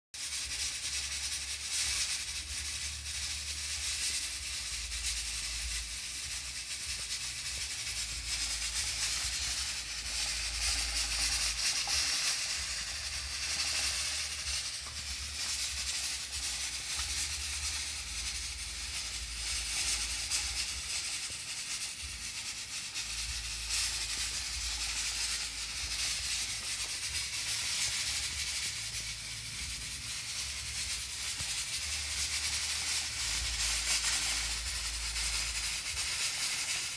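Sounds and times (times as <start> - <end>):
pressure cooker hissing: 0.2 - 36.9.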